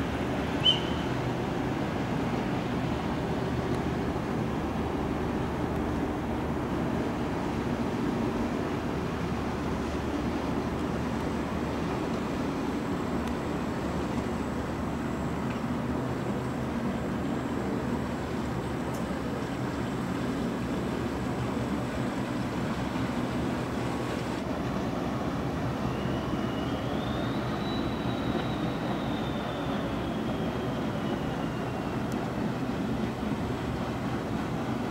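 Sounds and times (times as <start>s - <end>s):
boat diesel engine droning: 0.0s - 34.9s
water noise: 0.0s - 34.9s.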